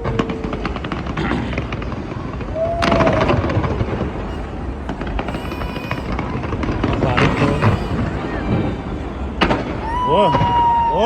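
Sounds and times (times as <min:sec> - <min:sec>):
fireworks bangs and crackles: 0:00.0 - 0:05.3, 0:06.1 - 0:10.9
crowd voices: 0:00.0 - 0:11.0.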